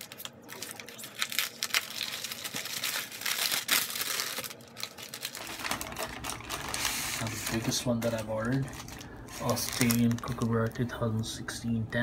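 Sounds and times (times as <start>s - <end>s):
kraft paper crinkling: 0.0s - 11.2s.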